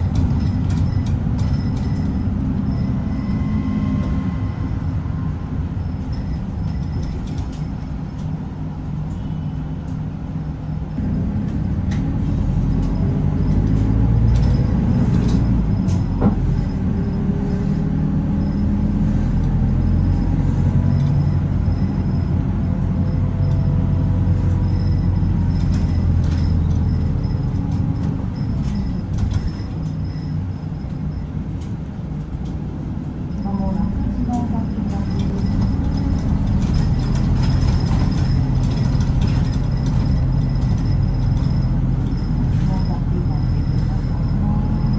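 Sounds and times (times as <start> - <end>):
bus engine: 0.0 - 44.9
road noise: 0.0 - 44.9.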